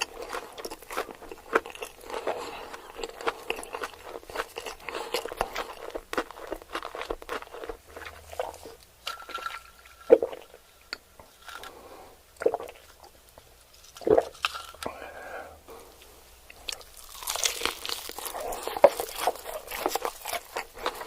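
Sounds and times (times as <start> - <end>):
chewing crunchy fried food: 0.0 - 10.6, 12.4 - 15.1, 16.5 - 21.0.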